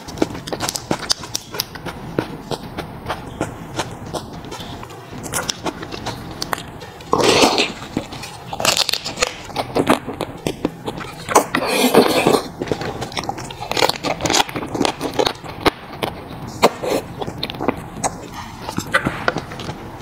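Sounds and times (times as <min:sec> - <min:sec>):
smacking chews: 0:00.0 - 0:19.9.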